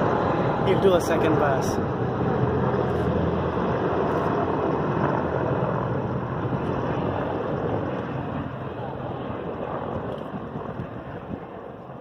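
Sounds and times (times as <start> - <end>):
helicopter flying past: 0.0 - 12.0.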